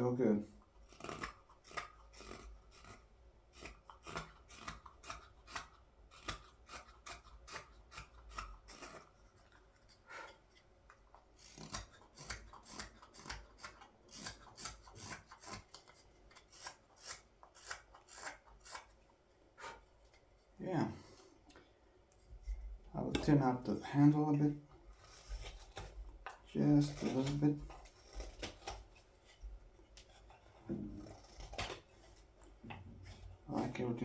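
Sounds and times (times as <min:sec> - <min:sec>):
knife shaving green wood: 0:00.0 - 0:34.0.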